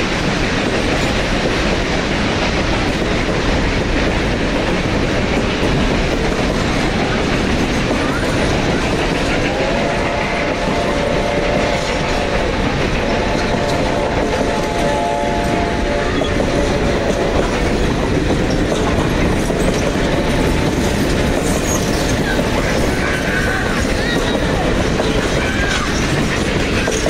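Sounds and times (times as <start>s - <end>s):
train coaches rumbling past: 0.0s - 27.0s.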